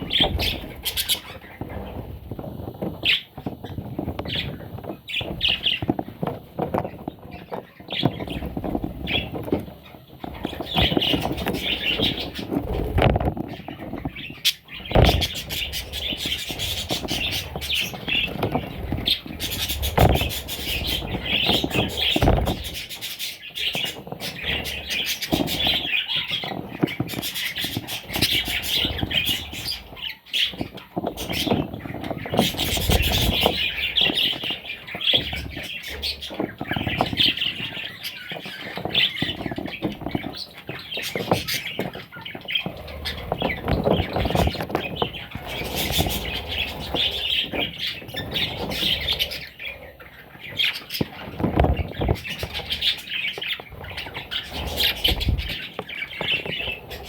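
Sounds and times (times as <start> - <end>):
budgerigars chirping and chattering: 0.0 - 57.0
knocks and rustles: 0.0 - 57.0.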